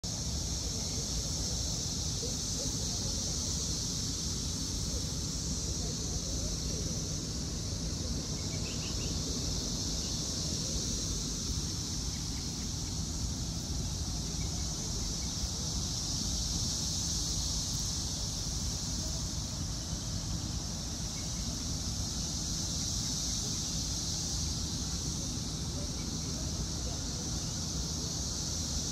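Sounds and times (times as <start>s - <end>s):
cicadas droning: 0.0s - 28.9s.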